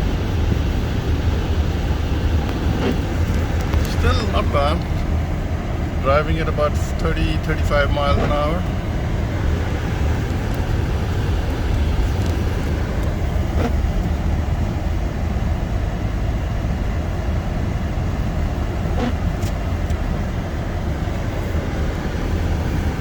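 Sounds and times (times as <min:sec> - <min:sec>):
car driving on snowy road: 0:00.0 - 0:23.0.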